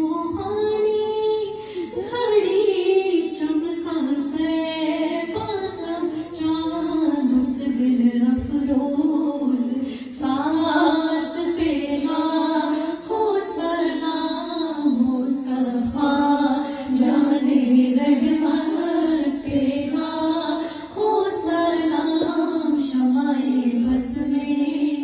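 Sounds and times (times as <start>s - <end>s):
woman singing devotional song: 0.0s - 25.0s.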